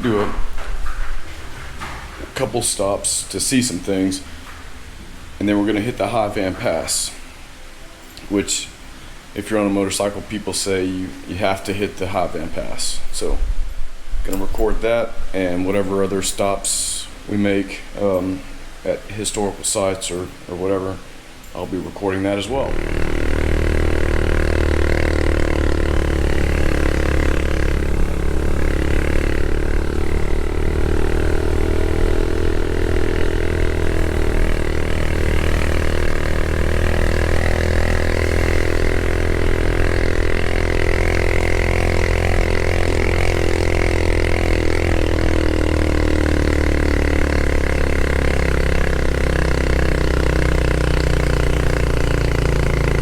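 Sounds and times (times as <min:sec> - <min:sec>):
motorcycle engine running: 0:00.0 - 0:17.6, 0:18.4 - 0:53.0.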